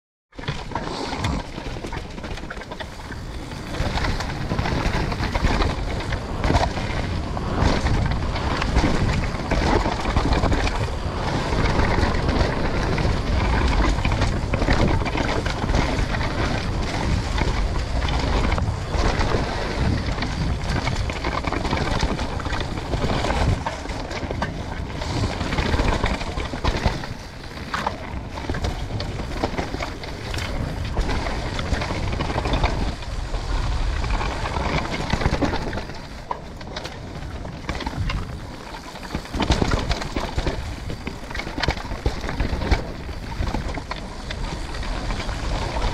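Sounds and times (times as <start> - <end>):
bike rattling and knocking: 0.3 - 45.9
tyres on dirt: 0.4 - 45.9
wind rush on microphone: 0.5 - 45.9.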